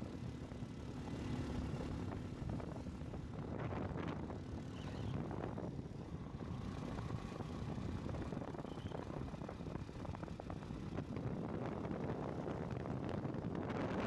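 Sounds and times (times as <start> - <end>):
motorcycle engine running: 0.0 - 14.0
wind on microphone: 1.9 - 14.0.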